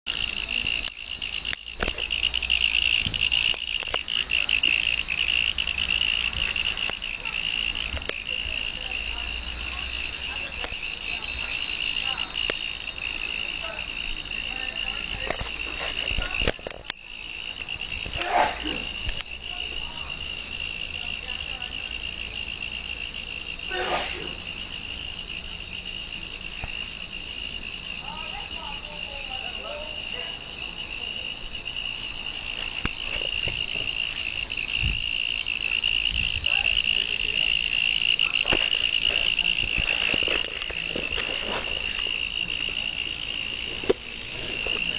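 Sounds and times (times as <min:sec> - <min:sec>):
insects trilling: 0:00.1 - 0:44.9.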